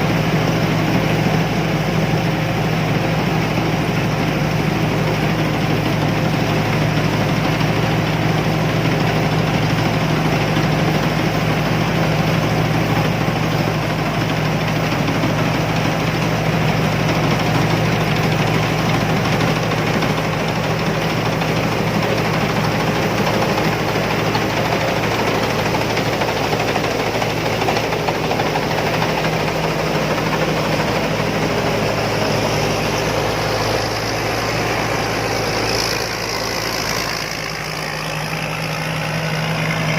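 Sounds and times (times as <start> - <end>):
combine harvester engine humming: 0.0 - 39.9.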